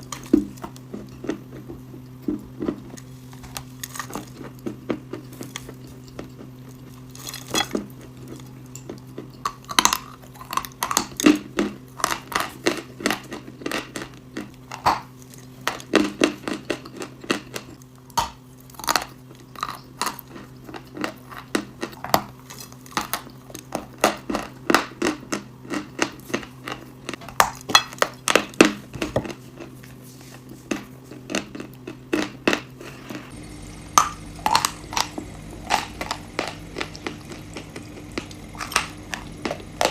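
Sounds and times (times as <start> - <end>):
crunching and chewing hard food: 0.0 - 39.9
steady low hum: 0.0 - 39.9.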